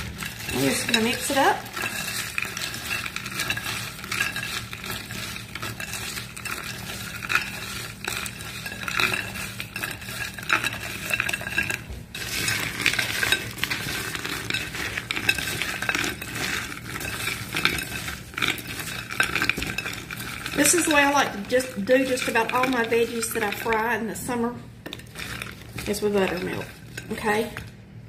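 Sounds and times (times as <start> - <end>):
frozen pieces clicking on glass dish: 0.0 - 24.0, 24.8 - 27.7
wet crackly stirring: 0.0 - 28.0.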